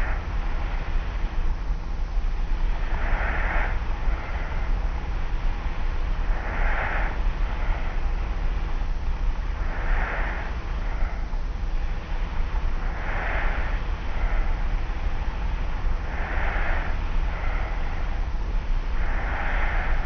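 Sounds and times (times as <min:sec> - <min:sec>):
tape hiss and hum: 0:00.0 - 0:20.0.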